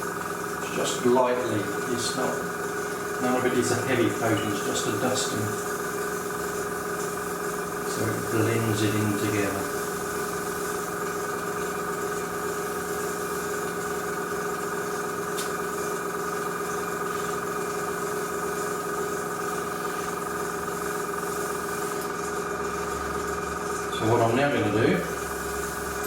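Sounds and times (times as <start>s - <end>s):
air compressor humming: 0.0s - 26.0s
airbrush hissing: 0.0s - 26.0s.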